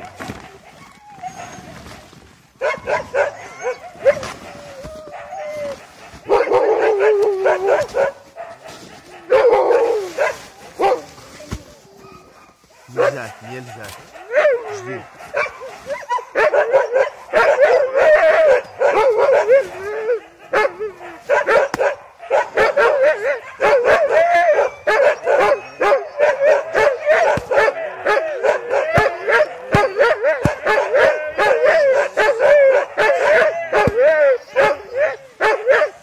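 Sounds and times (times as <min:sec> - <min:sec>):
sled dogs yipping and howling: 0:00.0 - 0:36.0.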